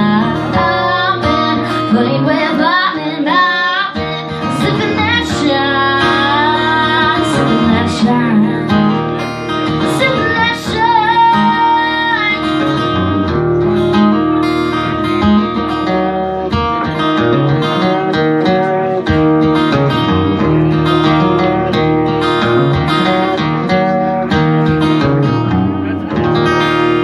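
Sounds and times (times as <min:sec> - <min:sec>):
strummed and picked guitar: 0:00.0 - 0:27.0.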